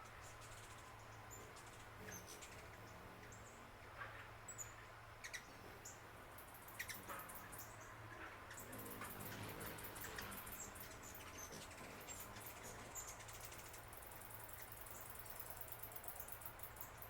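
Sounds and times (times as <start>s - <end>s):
quiet low hum: 0.0s - 17.0s.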